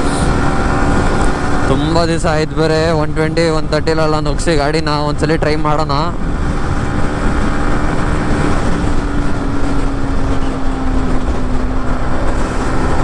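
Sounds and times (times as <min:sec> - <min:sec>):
motorcycle engine running fast: 0:00.0 - 0:13.0
wind rush on microphone: 0:00.0 - 0:13.0.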